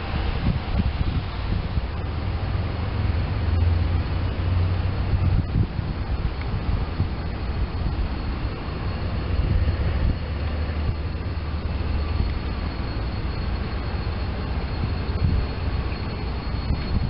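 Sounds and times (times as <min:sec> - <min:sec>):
locomotive engine rumble: 0:00.0 - 0:17.0.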